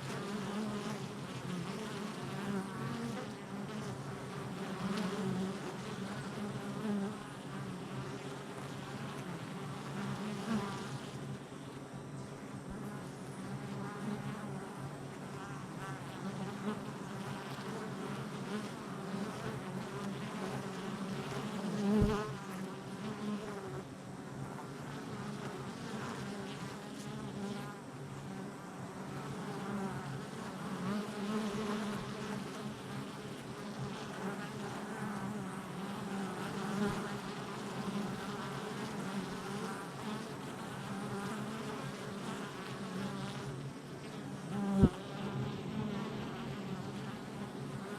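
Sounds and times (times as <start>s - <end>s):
honey bees buzzing: 0.0s - 47.9s.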